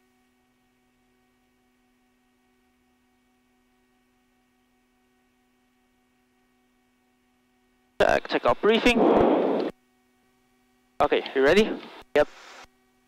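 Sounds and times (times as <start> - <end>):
faint steady tonal hum: 0.0 - 13.0.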